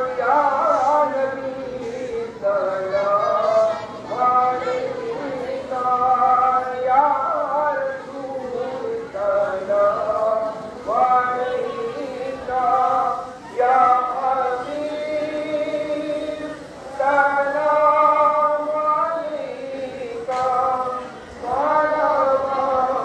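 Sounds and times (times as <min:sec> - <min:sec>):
devotional singing voices: 0:00.0 - 0:23.0.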